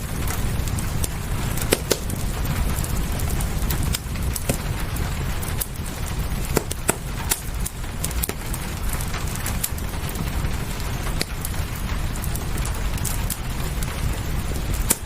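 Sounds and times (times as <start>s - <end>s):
low rumble: 0.0s - 15.0s
rain hiss: 0.0s - 15.0s
wood fire crackling: 0.0s - 15.0s.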